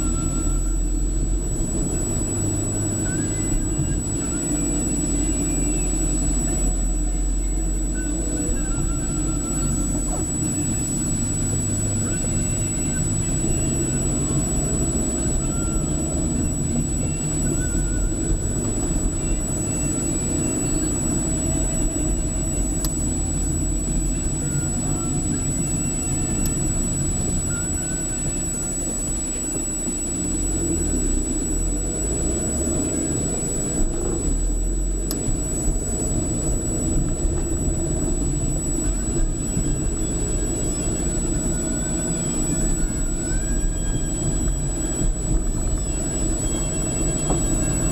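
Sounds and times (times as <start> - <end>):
car engine and road rumble: 0.0 - 47.9
high-pitched tone: 0.0 - 47.9.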